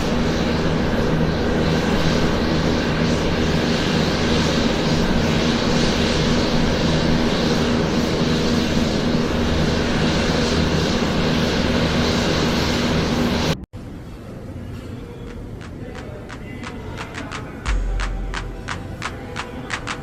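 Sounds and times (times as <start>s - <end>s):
airliner engines running: 0.0s - 20.0s.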